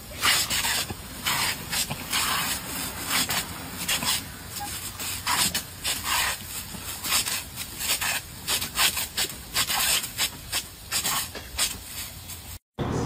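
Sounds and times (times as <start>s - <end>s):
sprinkler spraying hiss: 0.0s - 12.6s.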